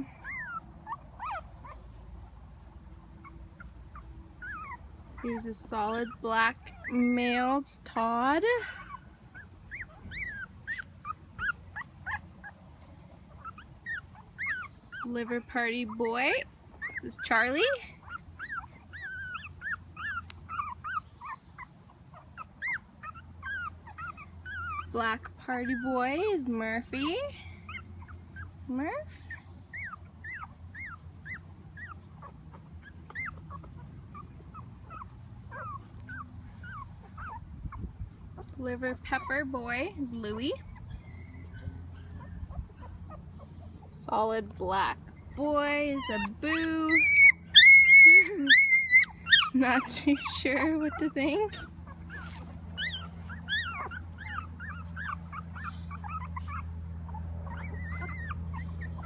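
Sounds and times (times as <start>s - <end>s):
puppies whimpering: 0.0s - 59.0s.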